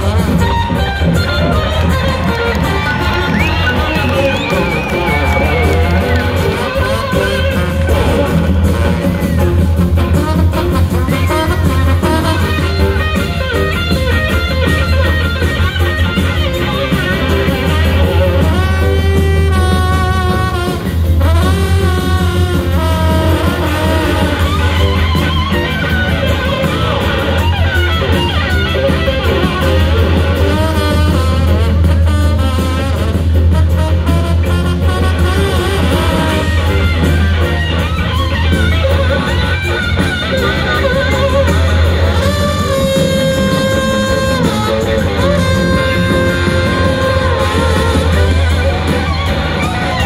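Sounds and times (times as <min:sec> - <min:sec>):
electric guitar: 0:00.0 - 0:50.0
live band playing instrumental: 0:00.0 - 0:50.0
trombone gliding notes: 0:00.0 - 0:50.0.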